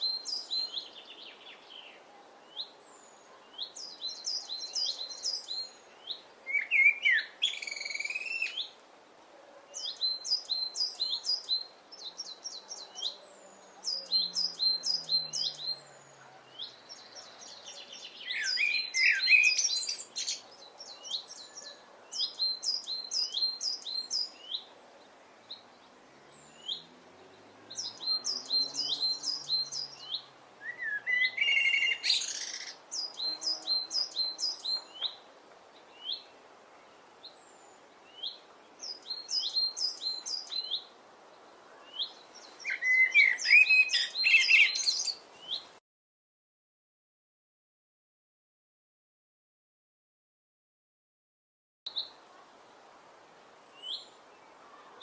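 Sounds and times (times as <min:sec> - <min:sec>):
songbirds singing: 0:00.0 - 0:45.8, 0:51.9 - 0:55.0.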